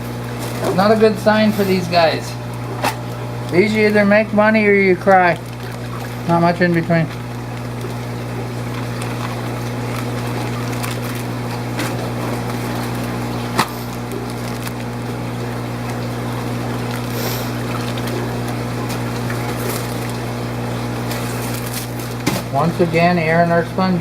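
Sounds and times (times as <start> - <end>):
aquarium pumps humming: 0.0 - 24.0.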